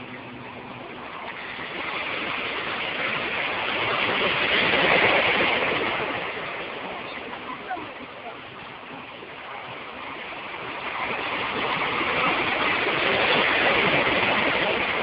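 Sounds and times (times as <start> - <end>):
wave breaking and rushing in: 0.0 - 15.0.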